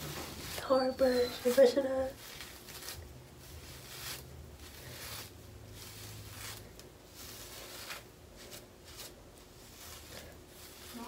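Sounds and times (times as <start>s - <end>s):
hair brush scraping through hair: 0.0s - 11.0s.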